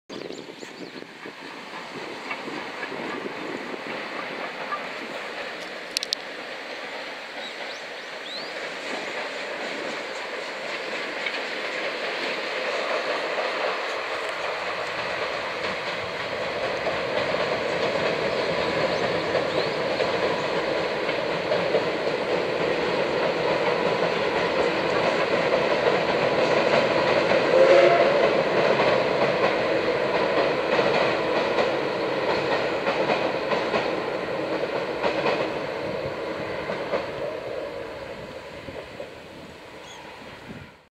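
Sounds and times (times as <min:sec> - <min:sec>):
steam locomotive exhaust beats: 0:00.2 - 0:40.9
train wheel noise: 0:00.2 - 0:40.9.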